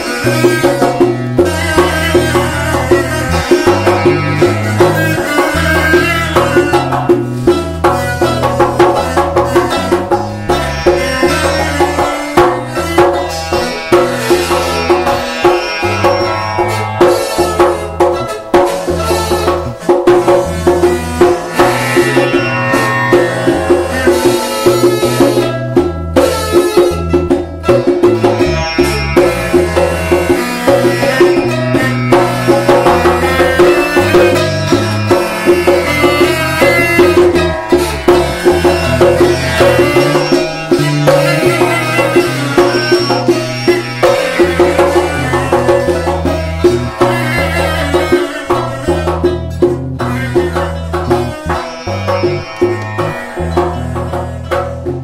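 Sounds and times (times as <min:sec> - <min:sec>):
held drone: 0:00.0 - 0:25.6, 0:28.0 - 0:54.7
fast plucked string melody: 0:00.0 - 0:55.0
hand drums beating: 0:00.0 - 0:55.0.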